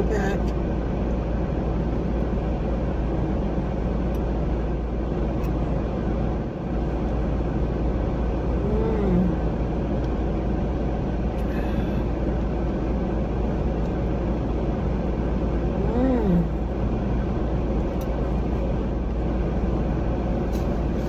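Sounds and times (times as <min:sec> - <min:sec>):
car idling rumble and hiss: 0:00.0 - 0:21.0.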